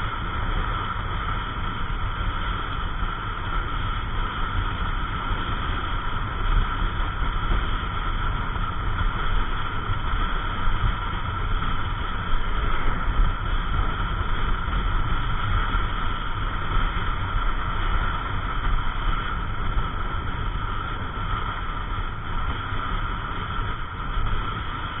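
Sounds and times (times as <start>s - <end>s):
scooter riding wind noise: 0.0s - 25.0s.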